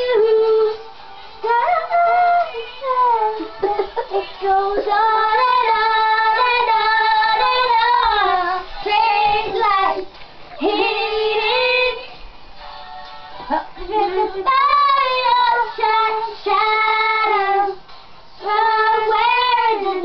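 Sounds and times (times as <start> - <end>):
girls singing together: 0.0 - 12.3, 13.3 - 20.0.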